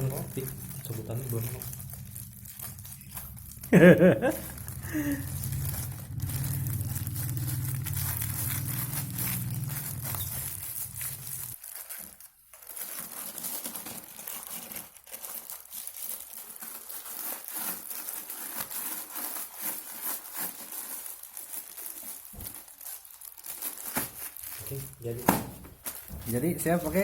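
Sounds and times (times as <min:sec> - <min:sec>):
crinkling and rustling handling: 0:00.0 - 0:27.0.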